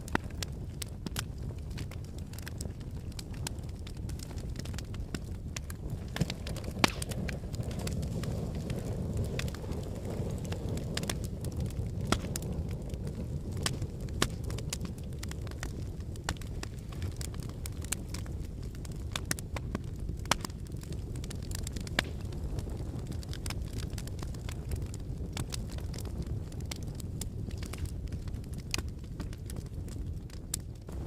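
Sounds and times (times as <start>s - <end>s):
burning logs crackling and popping: 0.0s - 31.0s
rumble of flames: 0.0s - 31.0s.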